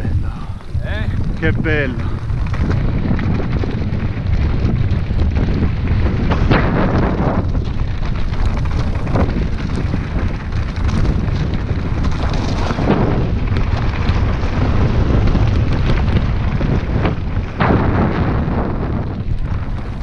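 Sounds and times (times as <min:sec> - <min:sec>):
bicycle knocking and rattling on rocks: 0:00.0 - 0:20.0
wind buffeting microphone: 0:00.0 - 0:20.0.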